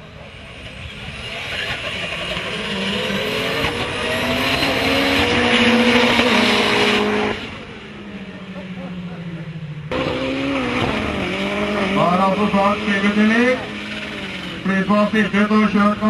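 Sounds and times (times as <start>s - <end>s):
car engines at high revs: 0.0s - 16.0s.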